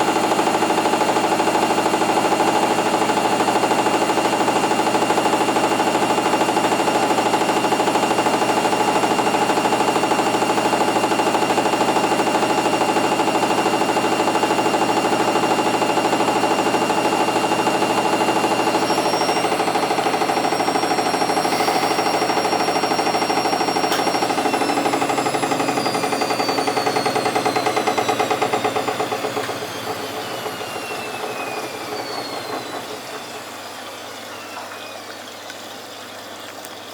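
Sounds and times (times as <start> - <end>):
washing machine spinning: 0.0 - 36.9.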